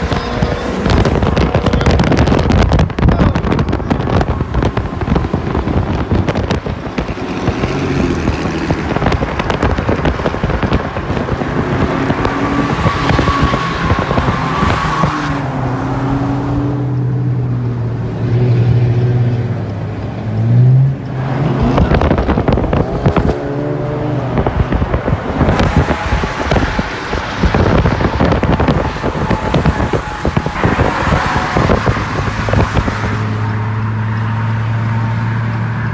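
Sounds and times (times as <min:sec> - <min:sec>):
car engine revving: 0:00.0 - 0:35.9
road and wind noise: 0:00.0 - 0:35.9.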